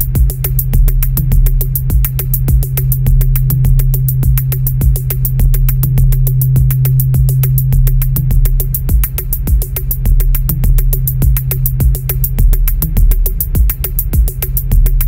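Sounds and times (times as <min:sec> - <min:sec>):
electronic drone music: 0:01.2 - 0:13.7.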